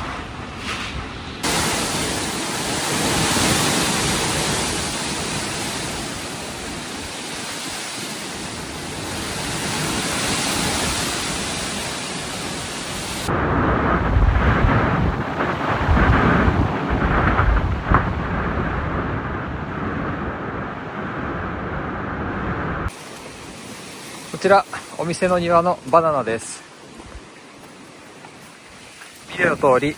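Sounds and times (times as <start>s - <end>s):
wind and rain rushing: 0.0s - 29.9s
wind buffeting microphone: 0.0s - 29.9s.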